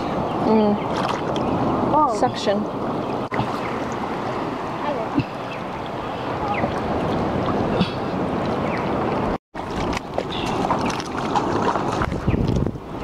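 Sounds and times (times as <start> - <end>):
water sloshing and splashing: 0.0 - 13.0
wind on microphone: 0.0 - 13.0.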